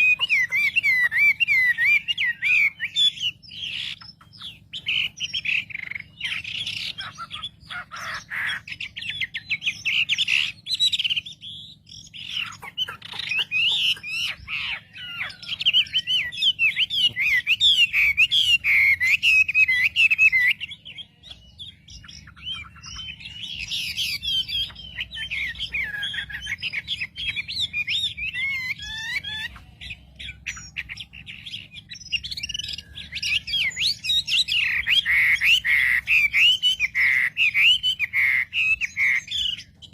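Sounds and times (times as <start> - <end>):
bird warbling chirps: 0.0 - 39.9
faint low hum: 0.0 - 39.9.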